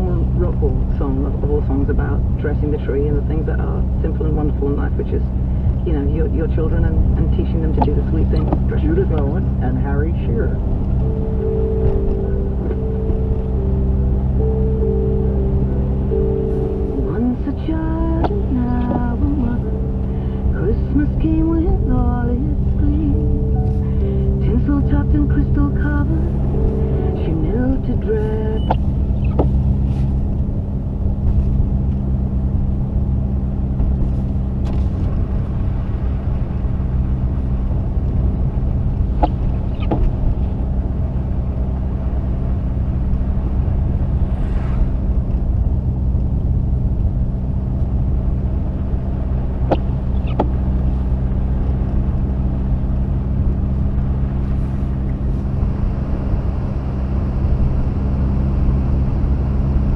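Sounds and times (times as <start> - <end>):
car engine low drone: 0.0 - 59.9
road and tyre noise: 0.0 - 59.9.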